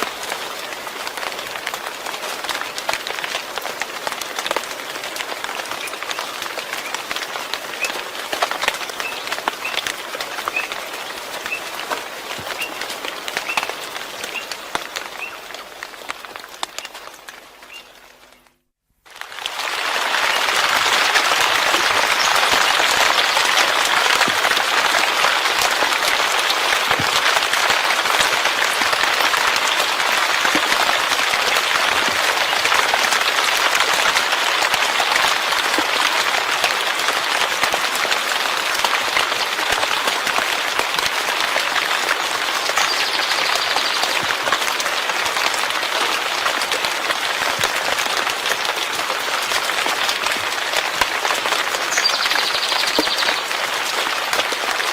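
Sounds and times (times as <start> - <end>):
heavy rain falling: 0.0 - 18.4, 19.0 - 54.9.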